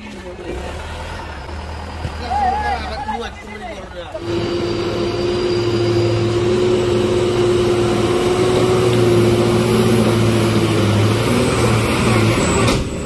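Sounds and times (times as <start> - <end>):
truck engine droning under load: 0.0 - 13.0.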